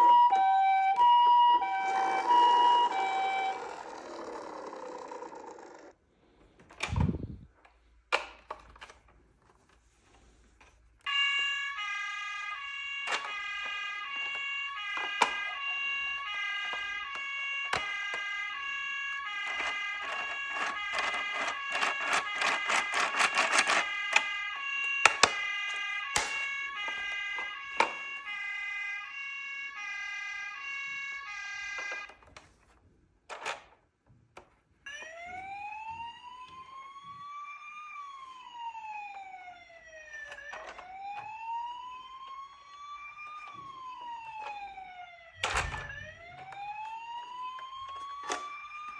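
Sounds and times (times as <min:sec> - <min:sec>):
toy siren two-tone: 0:00.0 - 0:05.3, 0:11.0 - 0:32.2, 0:34.9 - 0:48.9
rising wail siren: 0:00.0 - 0:05.4, 0:11.0 - 0:32.2, 0:34.9 - 0:48.9.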